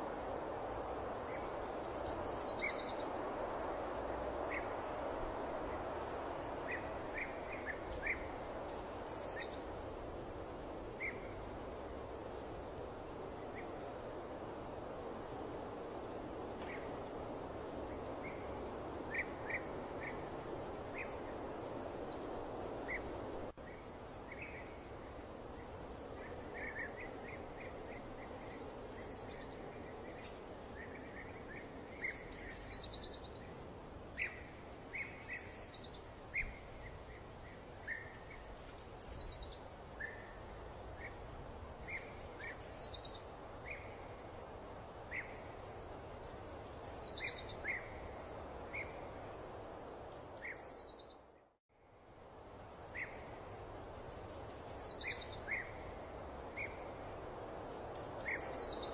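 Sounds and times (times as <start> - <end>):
soft steady hiss: 0.0 - 58.9.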